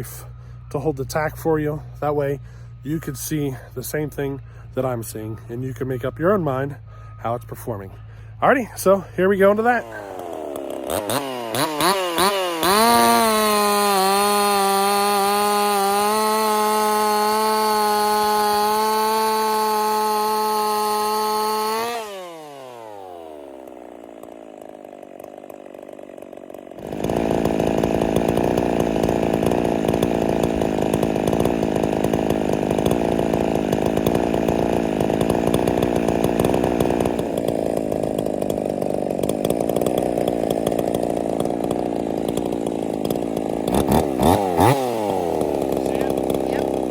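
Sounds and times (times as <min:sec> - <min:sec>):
chainsaw cutting wood: 0:00.0 - 0:46.9
chainsaw revving and idling: 0:00.0 - 0:46.9.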